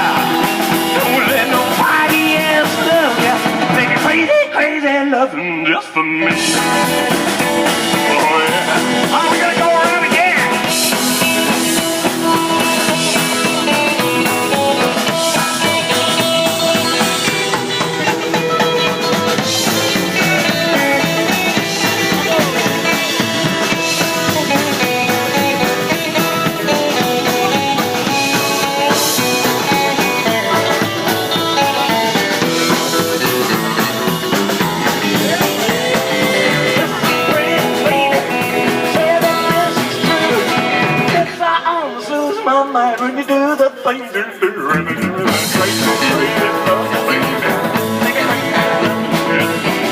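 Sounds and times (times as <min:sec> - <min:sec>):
electric guitar lead: 0:00.0 - 0:04.6, 0:05.3 - 0:42.9, 0:44.8 - 0:49.9
drum kit: 0:00.0 - 0:04.8, 0:06.2 - 0:41.7, 0:44.8 - 0:49.9
bass guitar: 0:00.0 - 0:42.8, 0:44.4 - 0:49.9.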